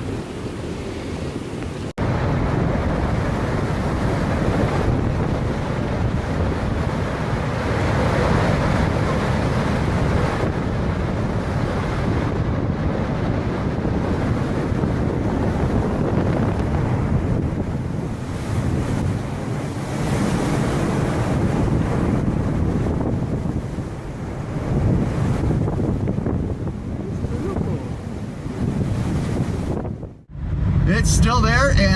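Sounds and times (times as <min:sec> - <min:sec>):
rough rushing water: 0:00.0 - 0:30.1
wind buffeting microphone: 0:00.0 - 0:31.0.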